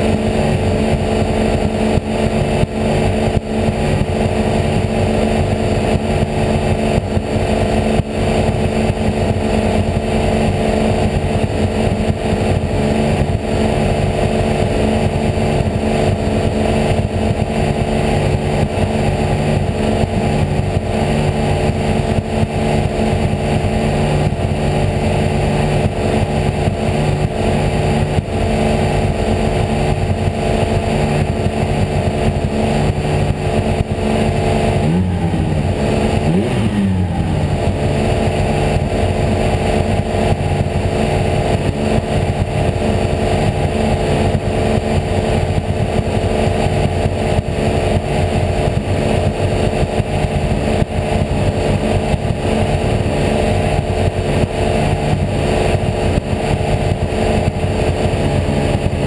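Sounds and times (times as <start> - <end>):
race car engine from cockpit: 0.0 - 59.0.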